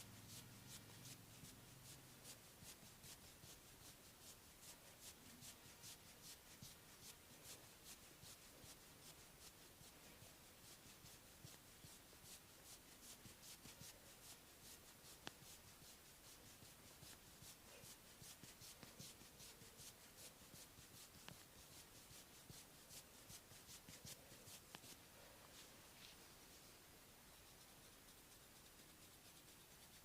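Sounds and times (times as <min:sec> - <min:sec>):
hands rubbing hair and scalp: 0:00.0 - 0:30.0.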